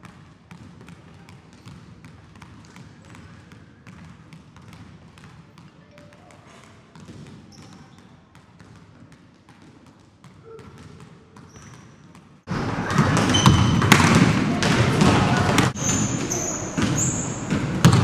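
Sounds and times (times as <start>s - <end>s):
basketball bouncing on hardwood floor: 0.0s - 6.2s, 6.9s - 12.3s, 12.9s - 18.0s.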